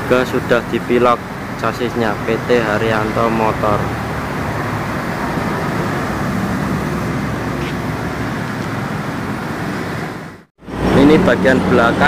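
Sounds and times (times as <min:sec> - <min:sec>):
low engine hum: 0:00.0 - 0:12.0
traffic noise: 0:00.0 - 0:12.0.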